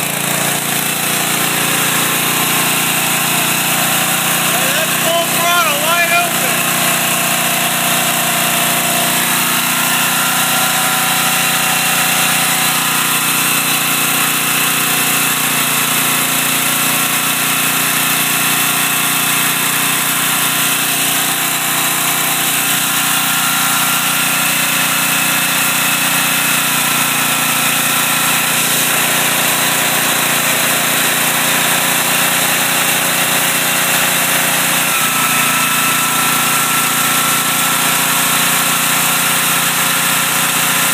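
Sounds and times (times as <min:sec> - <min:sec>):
portable generator engine running: 0:00.0 - 0:40.9.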